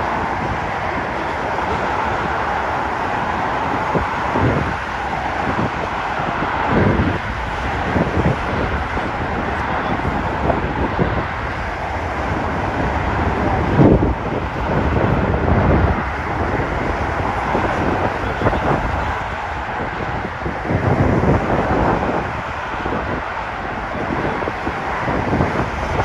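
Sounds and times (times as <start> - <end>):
jet engines roaring: 0.0 - 26.0
wind buffeting microphone: 0.0 - 26.0.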